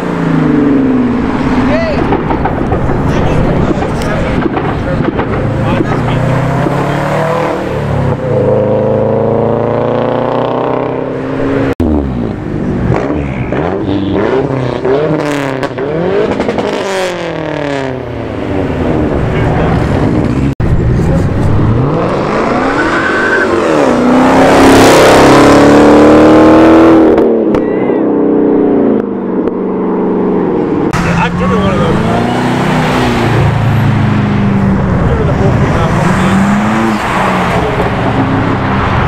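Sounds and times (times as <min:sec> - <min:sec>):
car engines revving: 0:00.0 - 0:39.0.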